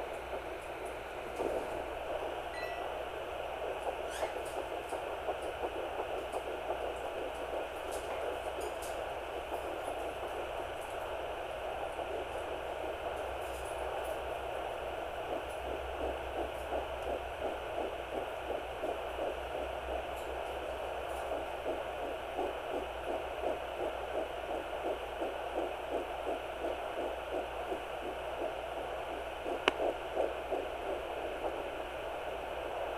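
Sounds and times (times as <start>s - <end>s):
fetal heartbeat pulsing: 0.0s - 32.9s.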